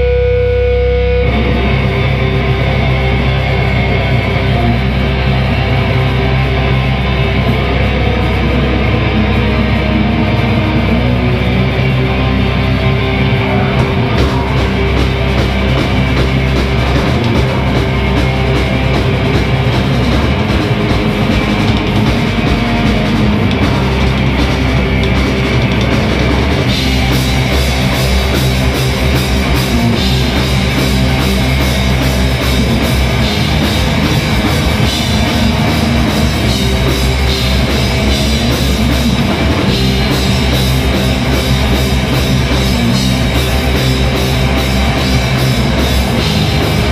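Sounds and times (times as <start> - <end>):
distorted electric guitars: 0.0 - 46.9
pounding drum kit: 1.2 - 46.9.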